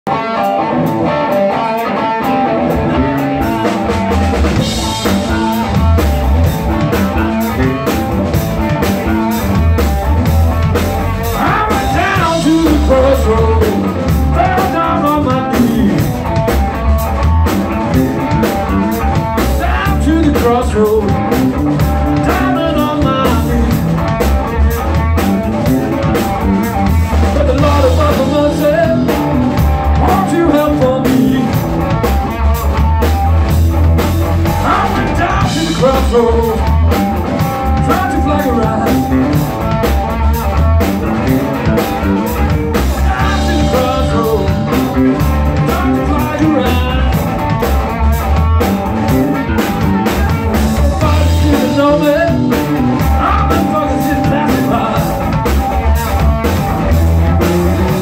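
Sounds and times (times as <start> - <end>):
bass guitar: 0.0 - 58.0
drum kit: 0.1 - 58.0
electric guitar lead: 0.1 - 58.0.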